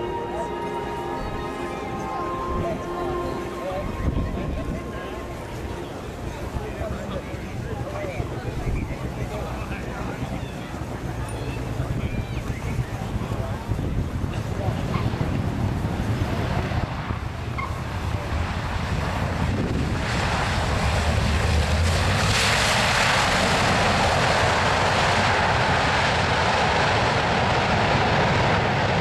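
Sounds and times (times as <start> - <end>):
wind buffeting microphone: 1.0 - 29.0.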